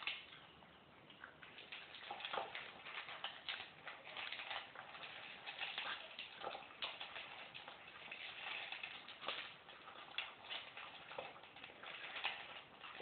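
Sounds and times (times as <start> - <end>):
dogs crunching dry kibble: 1.2 - 13.0.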